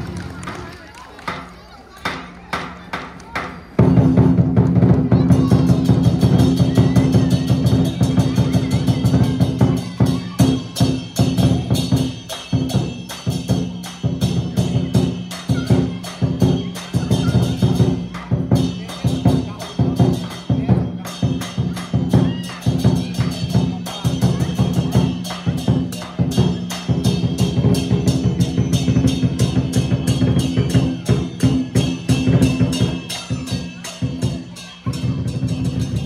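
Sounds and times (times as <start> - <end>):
big drum beating: 2.0 - 36.0
hand cymbals crashing: 3.8 - 36.0.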